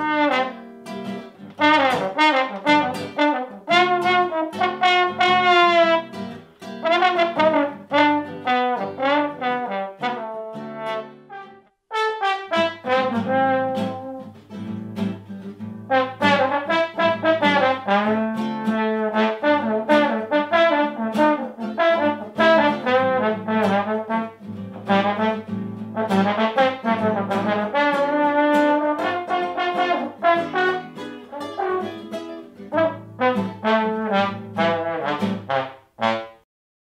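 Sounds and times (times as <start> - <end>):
classical guitar chords: 0.0 - 36.4
trombone melody: 0.0 - 36.4.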